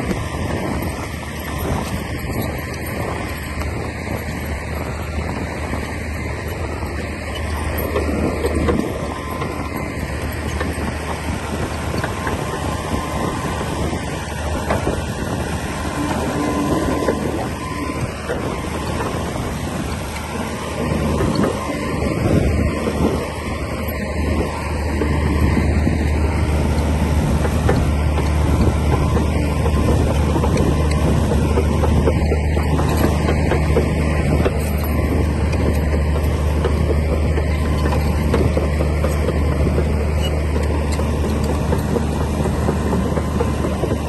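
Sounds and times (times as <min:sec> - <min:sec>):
bulldozer engine under load: 0:00.0 - 0:44.0
clanks and rattles of tracks: 0:00.0 - 0:44.0.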